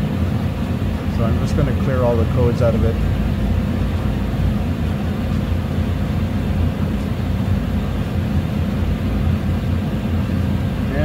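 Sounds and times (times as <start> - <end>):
faint hum: 0.0 - 11.0
furnace rumbling: 0.0 - 11.0.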